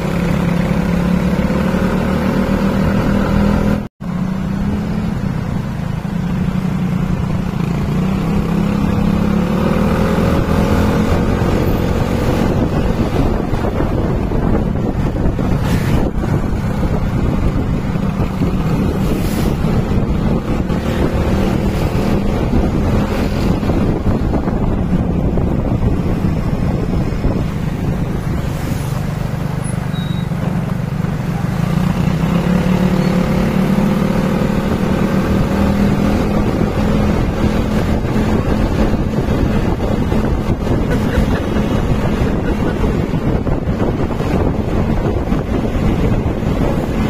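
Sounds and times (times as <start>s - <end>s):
wind buffeting microphone: 7.0s - 29.6s, 30.3s - 47.0s.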